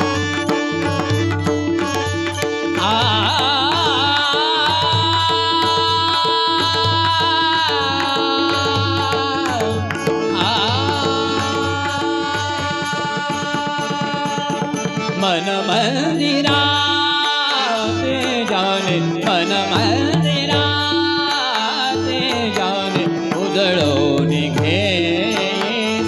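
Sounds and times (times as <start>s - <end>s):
devotional music: 0.0s - 26.0s
tabla rhythm: 0.0s - 26.0s.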